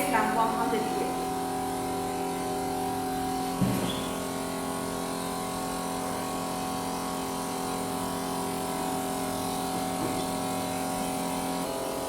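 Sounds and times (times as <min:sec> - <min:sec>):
furnace electric hum: 0:00.0 - 0:12.0.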